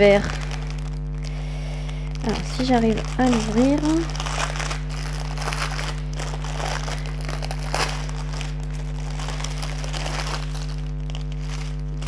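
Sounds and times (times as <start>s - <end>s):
plastic packaging crinkling: 0.0s - 12.0s
steady low hum: 0.0s - 12.0s.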